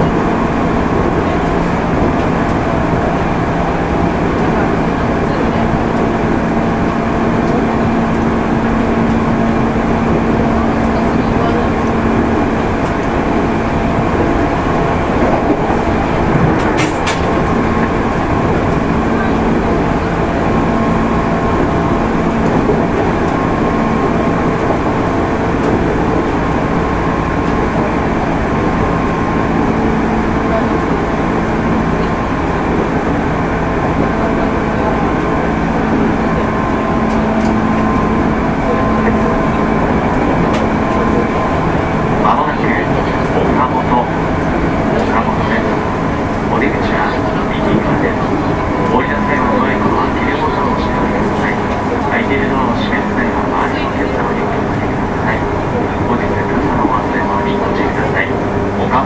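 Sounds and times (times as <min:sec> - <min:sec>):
traction motor hum: 0:00.0 - 0:59.0
train wheels on rail: 0:00.0 - 0:59.0.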